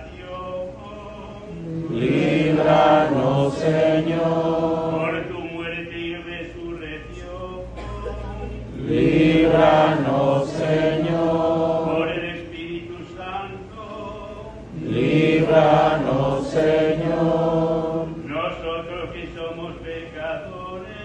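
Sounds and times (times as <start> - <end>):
cantor chanting: 0.0 - 21.0
many voices singing responses: 0.0 - 21.0.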